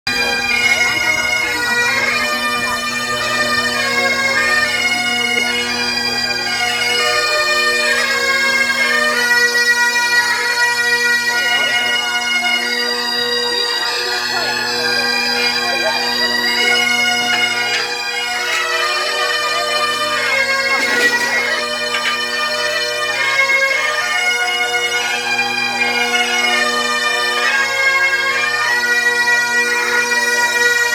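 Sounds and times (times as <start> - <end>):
bagpipes playing a melody: 0.1 - 30.9.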